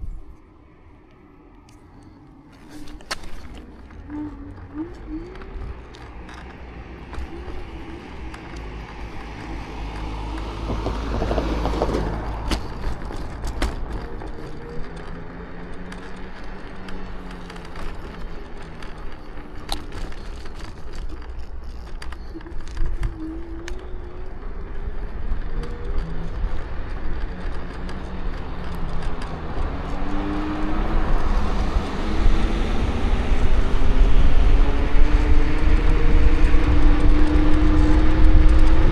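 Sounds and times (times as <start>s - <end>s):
electric scooter motor whine: 0.0s - 38.9s
scooter frame cracking and creaking: 0.0s - 38.9s.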